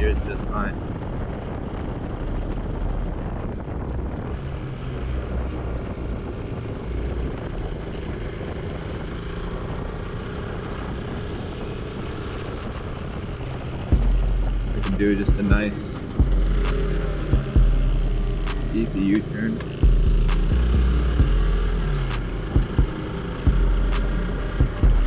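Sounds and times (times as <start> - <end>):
motorcycle engine running: 0.0 - 25.0
riding wind rush: 0.0 - 25.0.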